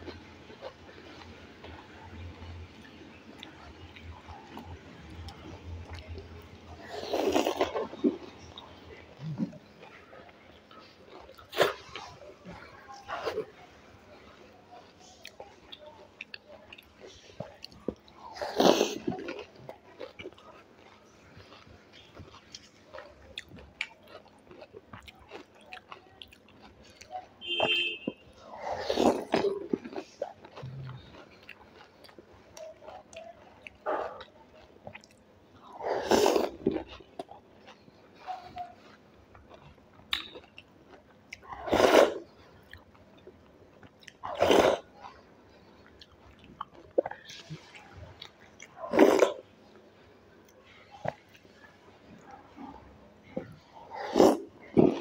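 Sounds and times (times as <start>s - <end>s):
chewing and mouth clicks: 0.0s - 27.4s, 28.3s - 55.0s.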